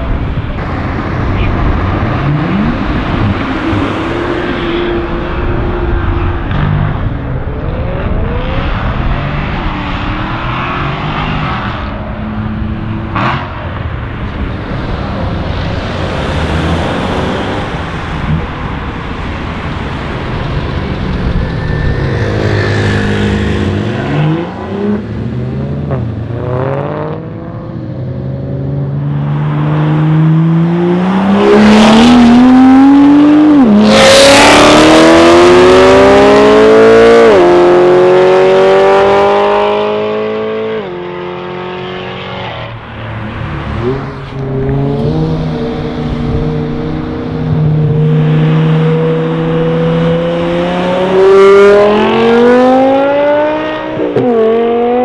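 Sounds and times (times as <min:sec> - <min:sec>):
car engine accelerating with upshifts: 0:00.0 - 0:55.0.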